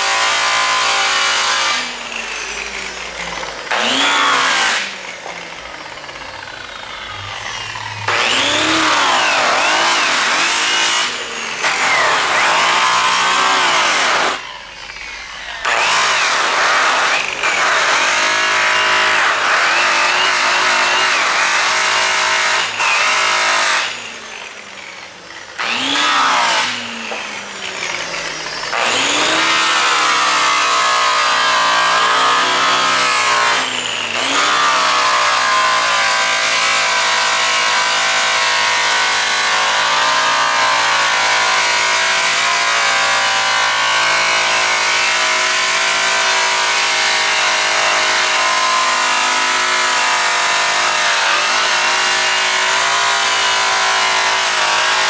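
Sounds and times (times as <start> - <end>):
angle grinder polishing metal: 0.0 - 55.0.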